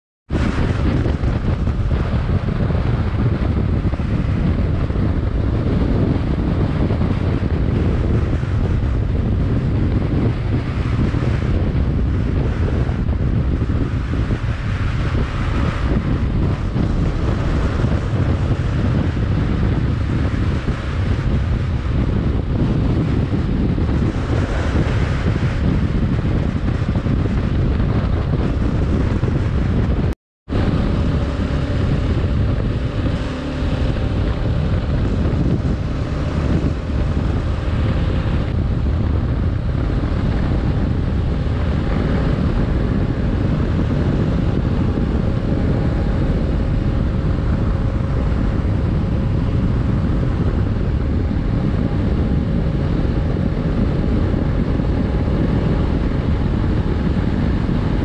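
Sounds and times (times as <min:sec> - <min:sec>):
motorcycle engine running: 0:00.3 - 0:58.0
wind rushing over microphone: 0:00.3 - 0:58.0.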